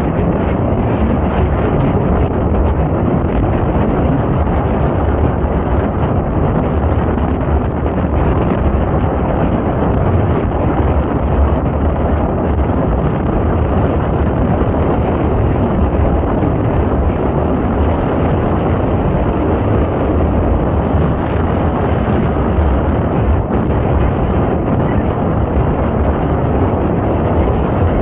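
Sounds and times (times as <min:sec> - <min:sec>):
boat engine: 0:00.0 - 0:28.0
water beneath boat: 0:00.0 - 0:28.0
wind buffeting microphone: 0:00.0 - 0:28.0.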